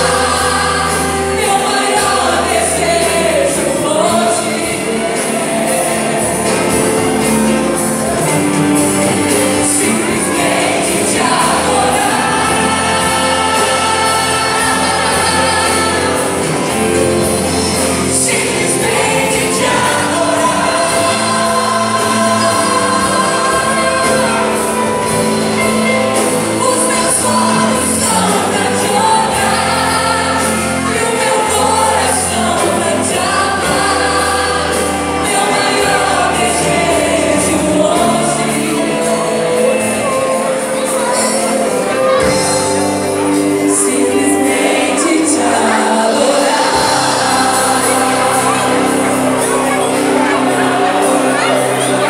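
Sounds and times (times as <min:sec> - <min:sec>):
church band playing: 0:00.0 - 0:52.0
people singing: 0:00.0 - 0:52.0.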